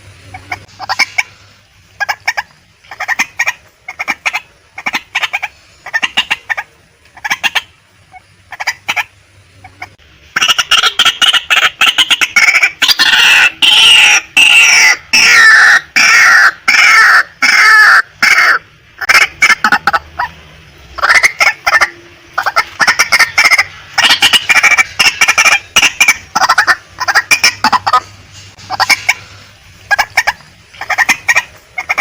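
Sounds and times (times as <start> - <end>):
waterhen clucking: 0.0 - 32.0
waterhen harsh calls: 0.0 - 32.0.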